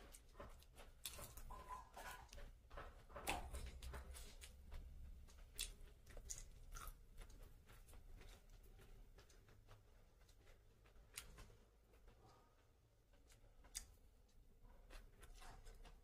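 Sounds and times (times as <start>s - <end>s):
fingers picking through food: 0.0s - 12.2s, 12.9s - 16.0s
person chewing with wet smacks: 0.0s - 16.0s.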